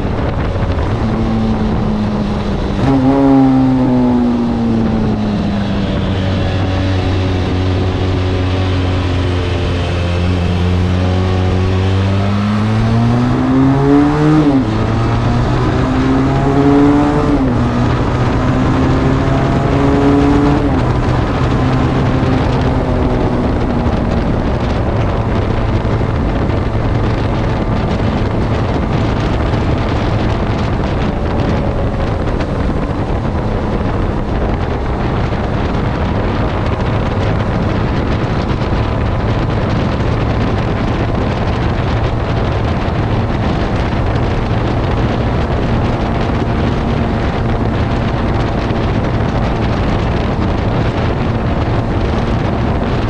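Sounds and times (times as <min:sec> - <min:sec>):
motorcycle engine cruising: 0:00.0 - 0:53.0
wind noise on microphone: 0:00.0 - 0:53.0.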